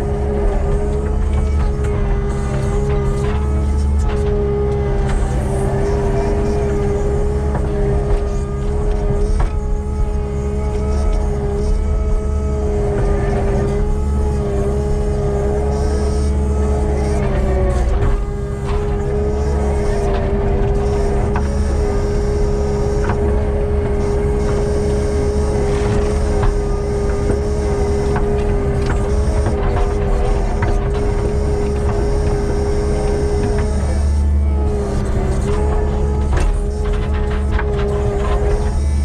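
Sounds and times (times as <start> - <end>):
constant whine: 0.0 - 39.0
diesel engine running: 0.0 - 39.0
faint clicks and knocks: 0.1 - 39.0.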